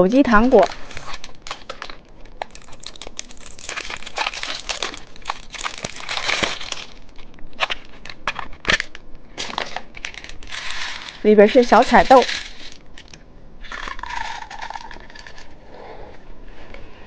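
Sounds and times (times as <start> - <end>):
candy wrapper crinkling: 0.1 - 15.6.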